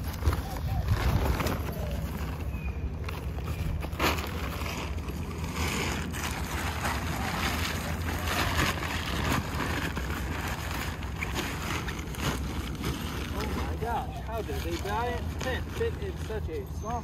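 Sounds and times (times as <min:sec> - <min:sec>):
wind rumbling on microphone: 0:00.0 - 0:15.8
tent fabric rustling: 0:00.0 - 0:17.0.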